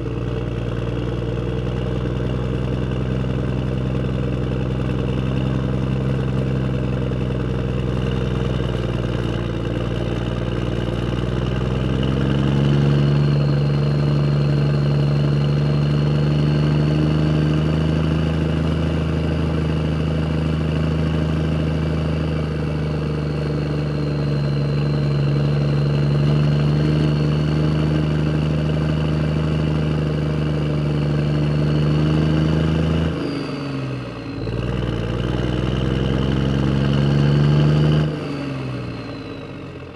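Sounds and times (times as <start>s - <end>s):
car engine idling: 0.0s - 32.0s, 32.6s - 39.9s.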